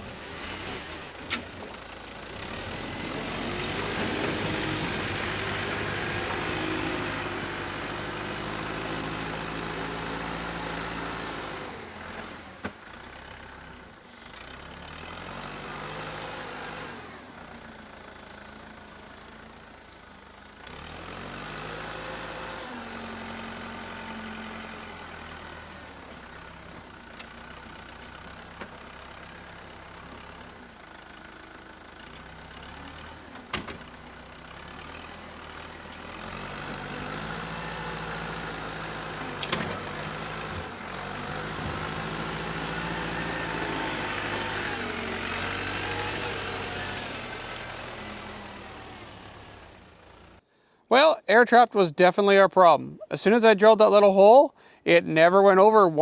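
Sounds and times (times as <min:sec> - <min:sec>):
diesel engine revving: 0:00.0 - 0:19.7, 0:20.4 - 0:50.5.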